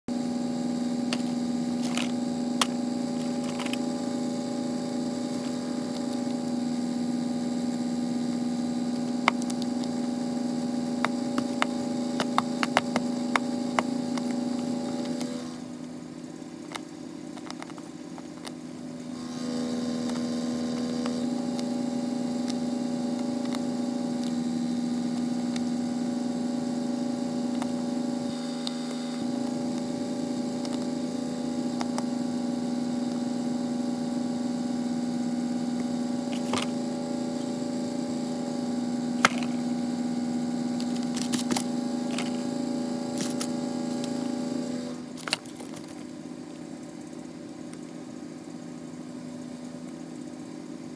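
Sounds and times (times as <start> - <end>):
machine hum with low tone: 0.0 - 50.9.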